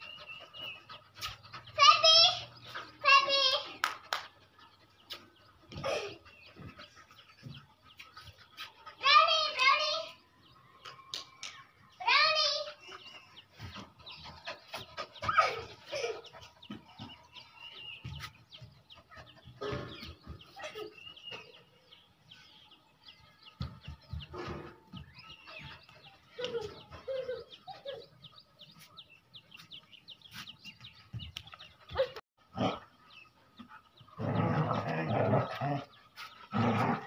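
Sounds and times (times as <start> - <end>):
bird calls: 0.0 - 3.9, 4.6 - 37.0.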